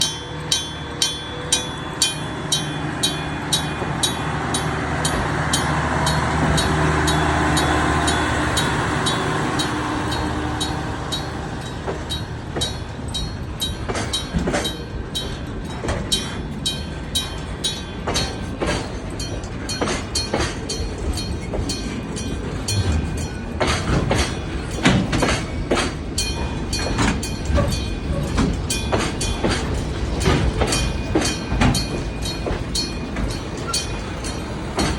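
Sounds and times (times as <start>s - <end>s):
crossing bell striking: 0.0s - 34.9s
locomotive drone: 0.0s - 34.9s
wagons clattering over rail joints: 0.0s - 34.9s.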